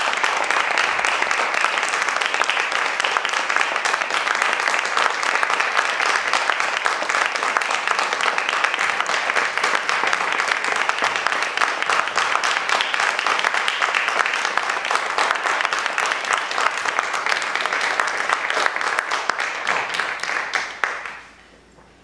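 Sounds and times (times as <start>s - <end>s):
audience applause: 0.0s - 21.4s.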